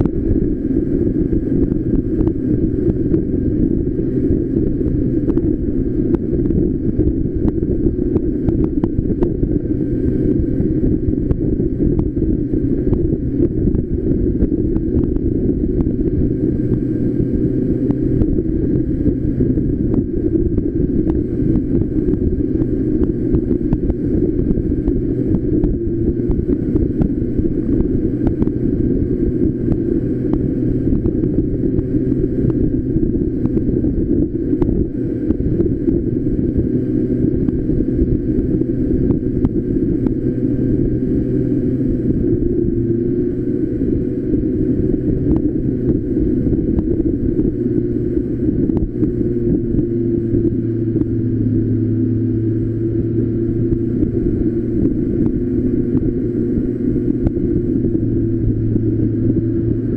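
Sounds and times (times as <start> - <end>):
go-kart engine running: 0.0 - 59.9
wind rumble on microphone: 0.0 - 59.9.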